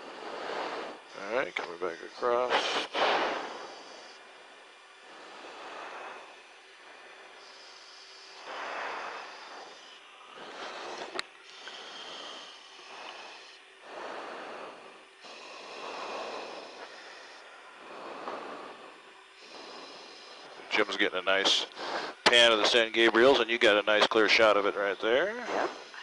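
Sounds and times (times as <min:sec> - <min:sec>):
breathing into microphone: 0:00.0 - 0:24.6, 0:25.4 - 0:26.0
faint steady hum: 0:00.0 - 0:26.0.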